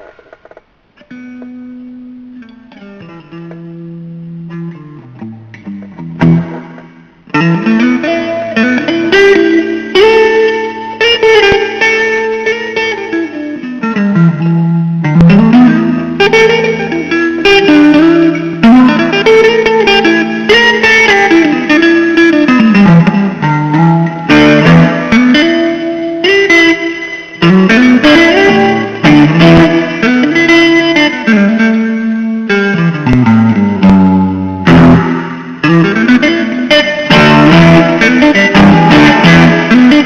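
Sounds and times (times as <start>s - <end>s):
plucked blues guitar: 0.0s - 40.0s.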